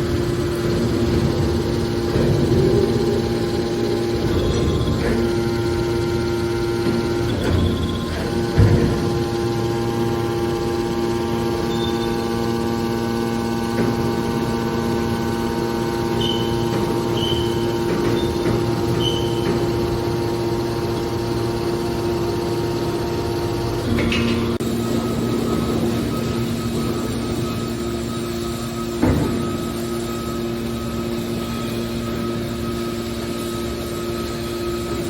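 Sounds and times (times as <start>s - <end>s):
hydraulic power unit humming: 0.0s - 35.0s.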